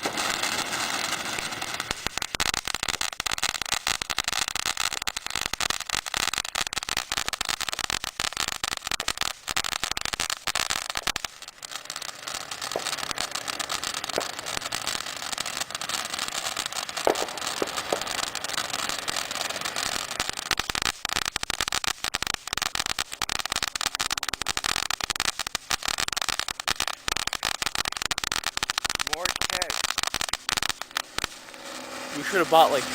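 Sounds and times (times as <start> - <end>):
ground fireworks hissing and crackling: 0.0 - 32.9.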